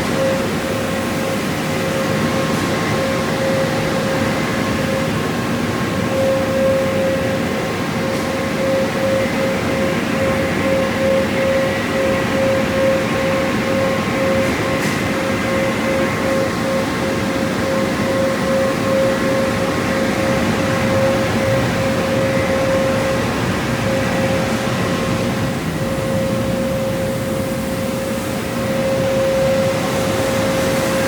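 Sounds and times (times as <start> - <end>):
car wash spray and machinery: 0.0 - 31.0.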